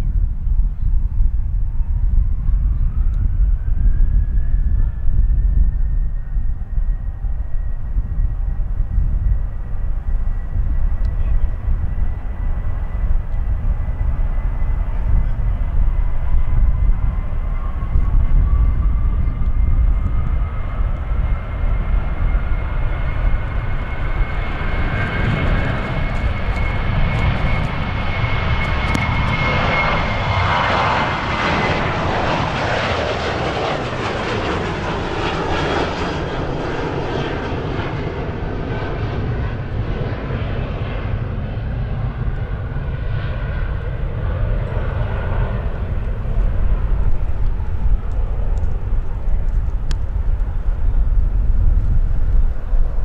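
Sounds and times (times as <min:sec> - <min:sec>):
jet airliner passing: 0:00.0 - 0:53.0.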